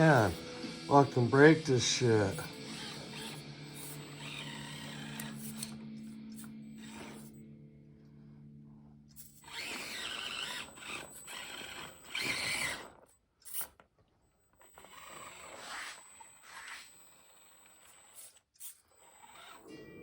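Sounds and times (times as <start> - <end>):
toy car motor whirring: 0.0 - 7.4, 9.1 - 19.8.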